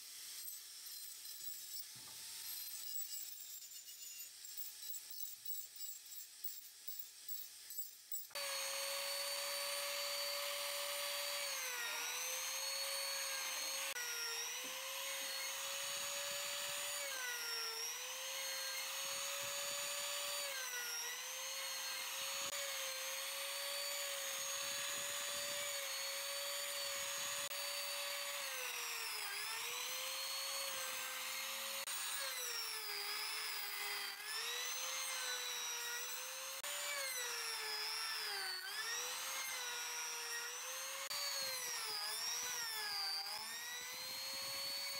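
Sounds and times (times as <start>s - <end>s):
angle grinder sanding wood: 8.2s - 44.9s
wood router high whine: 8.4s - 44.9s.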